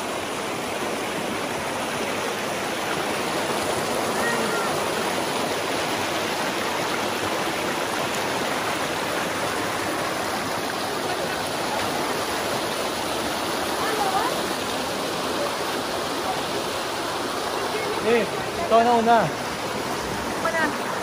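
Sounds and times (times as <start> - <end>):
water flowing over rock: 0.0 - 21.0.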